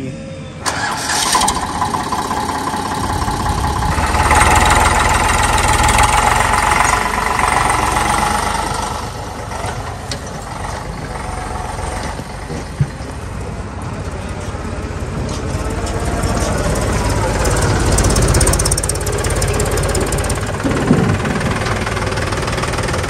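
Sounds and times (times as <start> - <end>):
diesel engine under load: 0.6 - 23.0.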